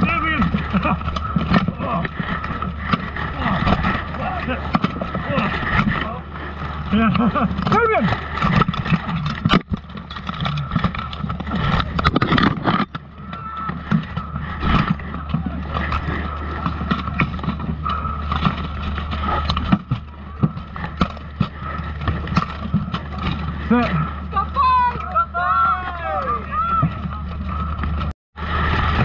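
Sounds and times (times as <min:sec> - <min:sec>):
armour clattering and scraping: 0:00.0 - 0:28.1
steady low rumble: 0:00.0 - 0:29.0.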